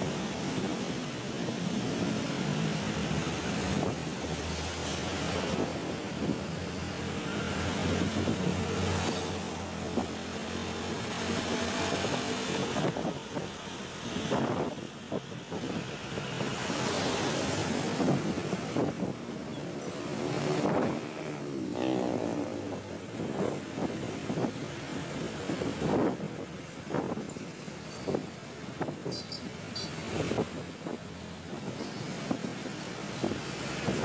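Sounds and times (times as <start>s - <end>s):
vehicles passing on highway: 0.0s - 34.0s.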